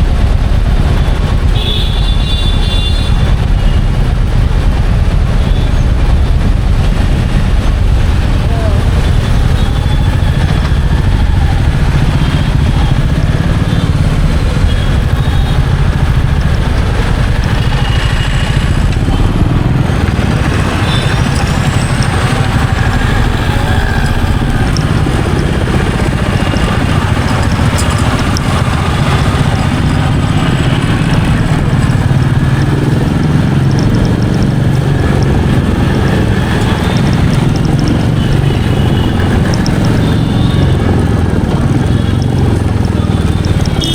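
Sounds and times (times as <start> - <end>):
motorcycle engine rumbling: 0.0 - 43.9
road noise: 0.0 - 43.9.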